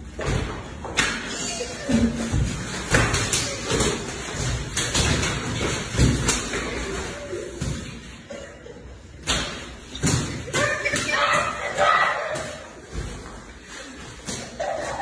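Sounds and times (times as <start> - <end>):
people stumbling and falling: 0.0 - 15.0.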